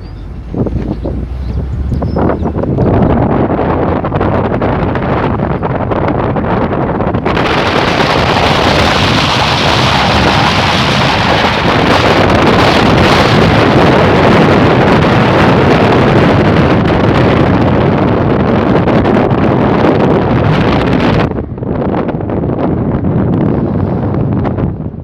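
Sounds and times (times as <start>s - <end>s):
wind and rain rushing: 0.0s - 25.0s
wind buffeting microphone: 0.0s - 25.0s.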